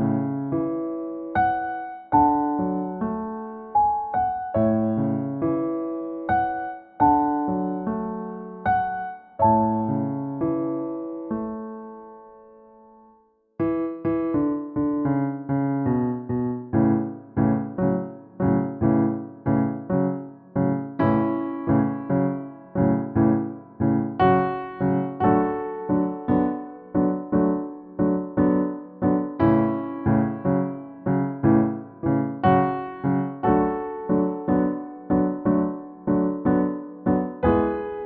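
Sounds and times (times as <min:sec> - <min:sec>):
piano chords: 0:00.0 - 0:38.0.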